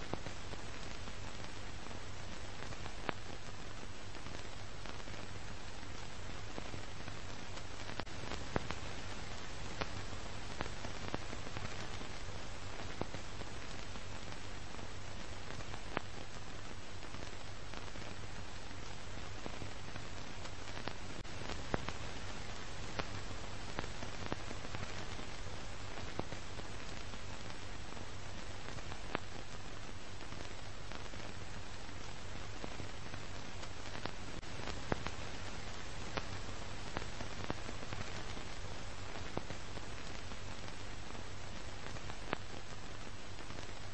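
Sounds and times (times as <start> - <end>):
film hiss: 0.0 - 43.9.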